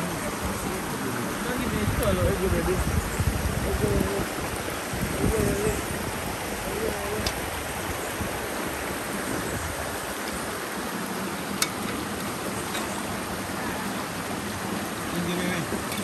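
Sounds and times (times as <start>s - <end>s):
stream running over stones: 0.0s - 16.0s.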